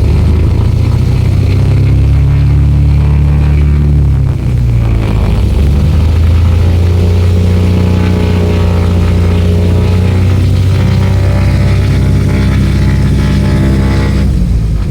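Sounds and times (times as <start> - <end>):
propeller aircraft engines droning: 0.0 - 14.9.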